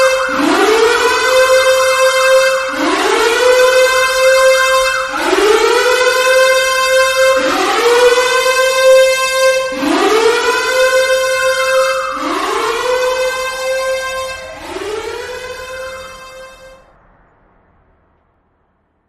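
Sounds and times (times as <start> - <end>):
siren wailing: 0.0 - 17.2.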